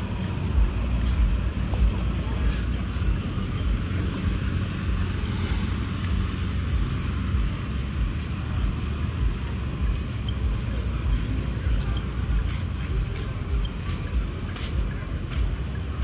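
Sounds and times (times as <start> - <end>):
road traffic rumble: 0.0 - 16.0
traffic hiss: 0.0 - 16.0.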